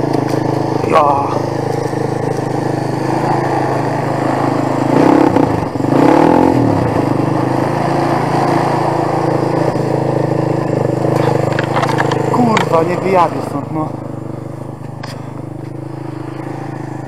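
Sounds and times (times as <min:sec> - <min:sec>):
quad bike engine idling and revving: 0:00.0 - 0:17.0.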